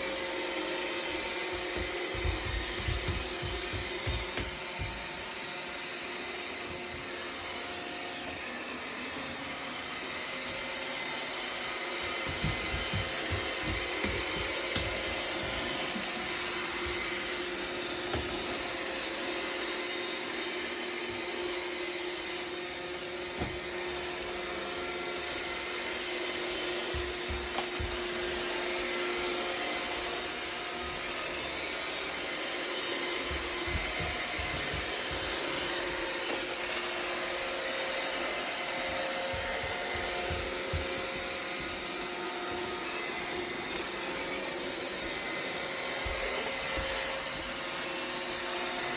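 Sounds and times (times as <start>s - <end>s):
robot vacuum humming: 0.0s - 48.9s.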